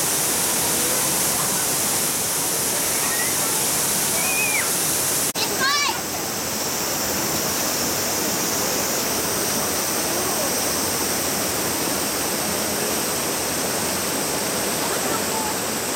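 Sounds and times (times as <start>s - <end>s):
waterfall and stream rushing: 0.0s - 15.9s.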